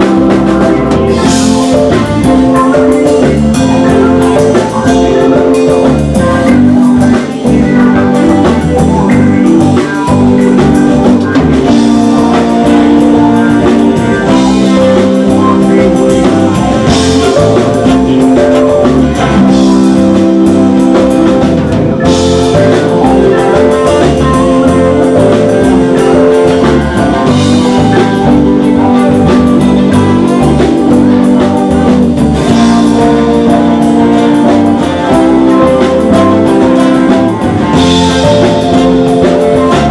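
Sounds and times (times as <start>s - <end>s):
drum kit beat: 0.0s - 39.9s
rock guitar: 0.0s - 39.9s.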